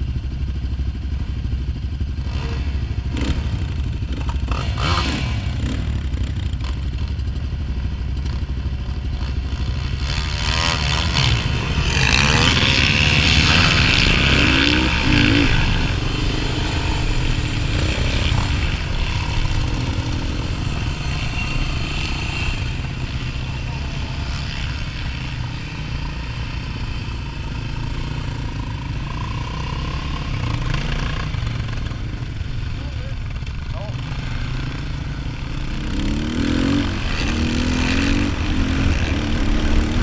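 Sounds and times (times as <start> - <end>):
other quad engines: 0.0 - 40.0
quad engine revving: 2.1 - 40.0.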